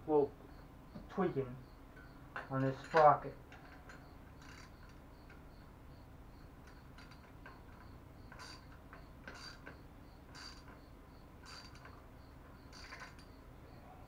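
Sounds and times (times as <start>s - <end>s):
faint high-pitched chirping: 0.0s - 14.0s.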